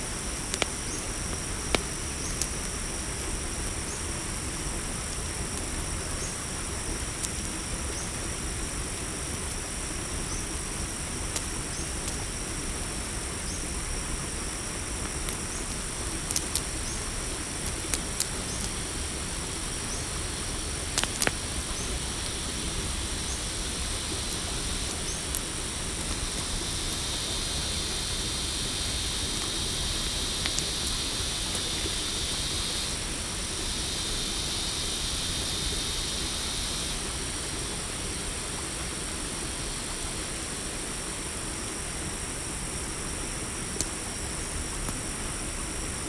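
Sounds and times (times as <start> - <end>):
campfire crackling: 0.0 - 42.9
crickets trilling: 0.0 - 46.0.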